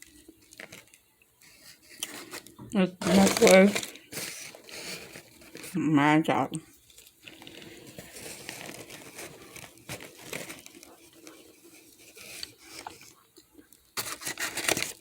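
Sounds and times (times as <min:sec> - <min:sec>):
paper bag crinkling and tearing: 0:00.0 - 0:05.8, 0:06.8 - 0:13.1, 0:14.0 - 0:15.0.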